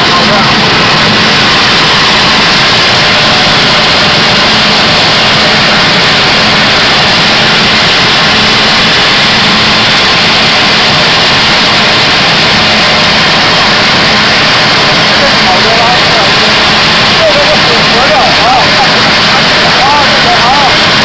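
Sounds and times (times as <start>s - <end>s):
air blower noise: 0.0s - 21.0s
gravity separator running: 0.0s - 21.0s.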